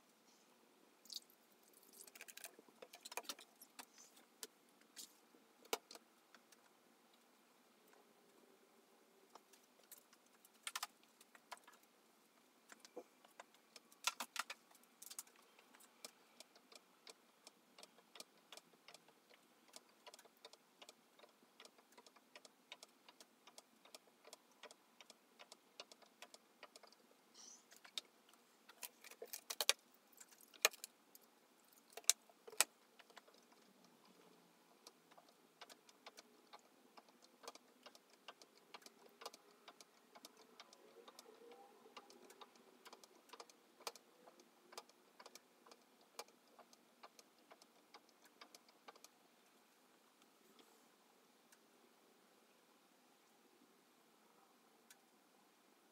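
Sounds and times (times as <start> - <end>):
small clicks and ticks: 1.0 - 8.4, 9.3 - 50.8, 54.8 - 55.2.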